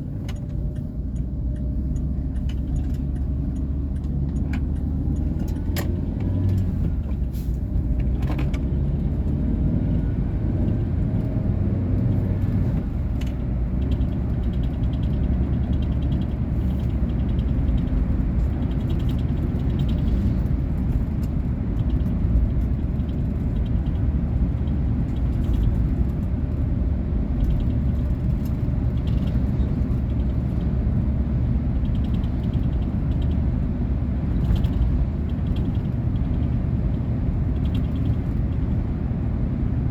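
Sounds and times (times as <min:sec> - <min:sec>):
car engine: 0:00.0 - 0:39.9
road rumble: 0:00.0 - 0:39.9.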